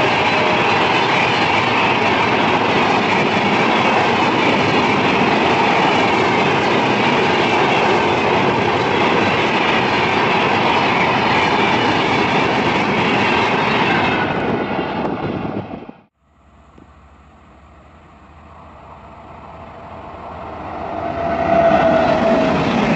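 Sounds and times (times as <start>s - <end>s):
train wheels rushing on rails: 0.0s - 22.9s.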